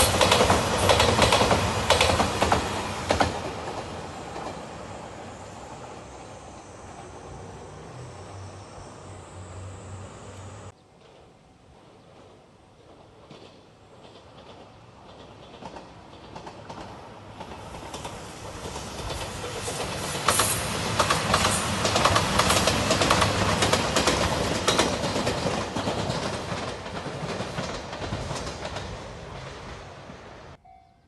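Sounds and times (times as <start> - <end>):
low train engine hum: 0.0 - 30.9.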